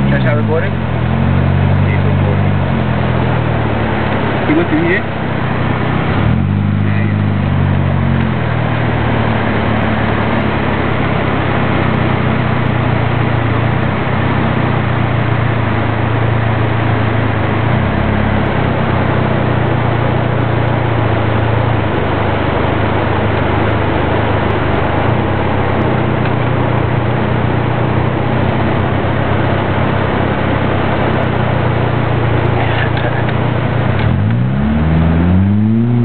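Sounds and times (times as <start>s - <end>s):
car engine humming: 0.0s - 36.0s
road and cabin noise: 0.0s - 36.0s.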